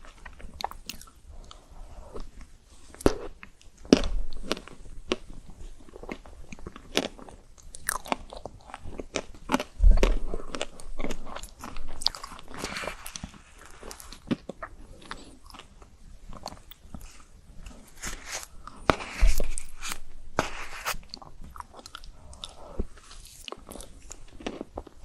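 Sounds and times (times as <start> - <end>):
soft chewing: 0.0 - 25.0.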